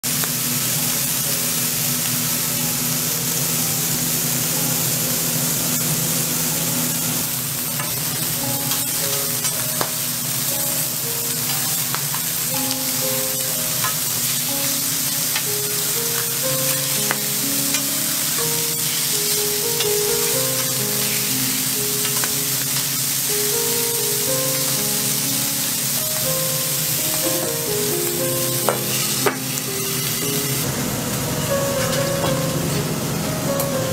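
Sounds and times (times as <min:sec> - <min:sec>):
food sizzling on griddle: 0:00.0 - 0:33.9
background music: 0:03.3 - 0:33.9.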